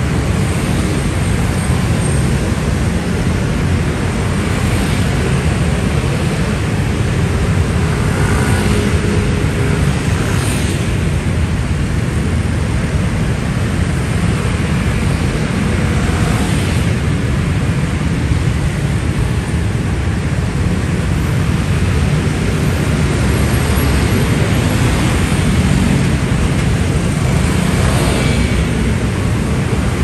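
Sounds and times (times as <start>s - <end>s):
dense road traffic: 0.0s - 30.0s
nearer vehicles passing: 0.0s - 30.0s.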